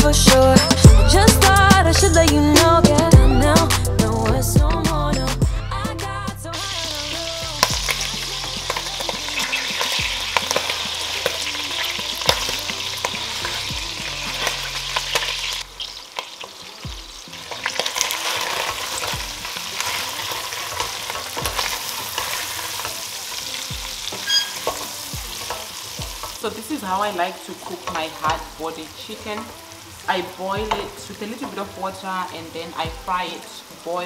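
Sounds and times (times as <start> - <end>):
chicken sizzling in a pot: 6.6 - 34.0.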